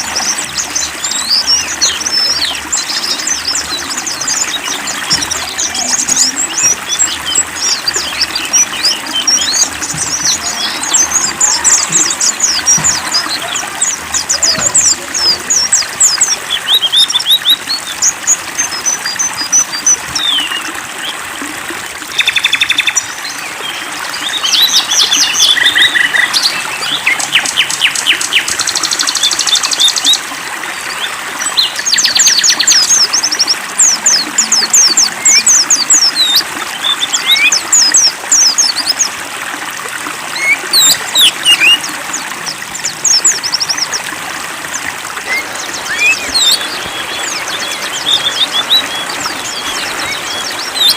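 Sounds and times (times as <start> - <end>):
running water trickling: 0.0 - 50.9
songbirds chirping and singing: 0.0 - 50.9.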